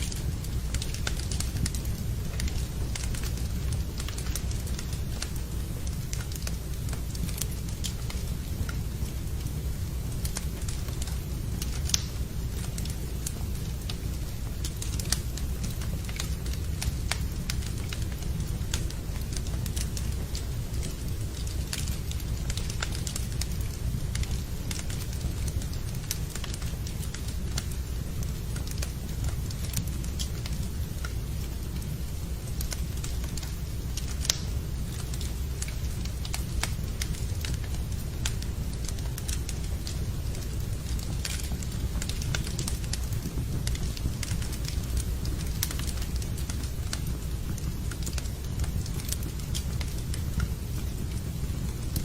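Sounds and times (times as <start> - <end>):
low fire rumble: 0.0 - 52.0
wood fire crackling and popping: 0.0 - 52.0.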